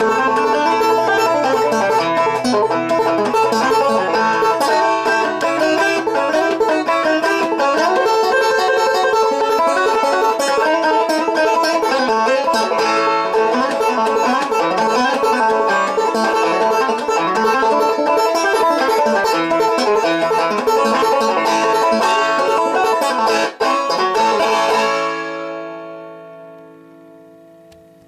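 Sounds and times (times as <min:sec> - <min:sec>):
banjo picking: 0:00.0 - 0:26.9.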